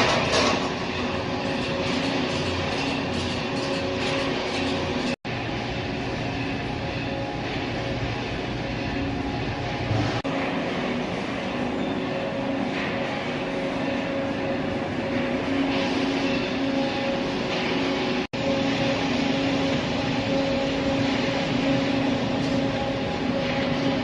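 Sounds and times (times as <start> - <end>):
industrial dryer humming and rushing: 0.0 - 24.0.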